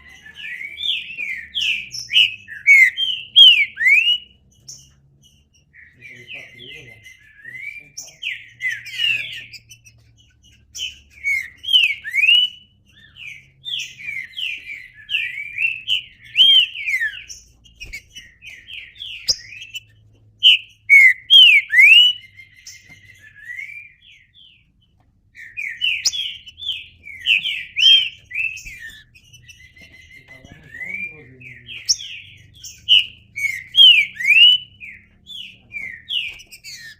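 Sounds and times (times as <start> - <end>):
bird singing whistled notes: 0.0 - 36.9.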